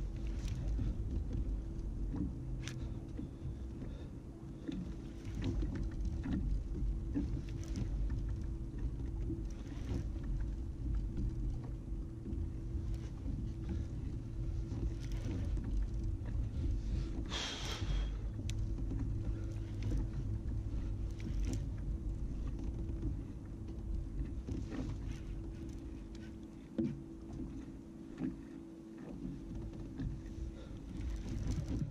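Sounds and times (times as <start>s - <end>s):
low rumble and hum: 0.0s - 31.9s.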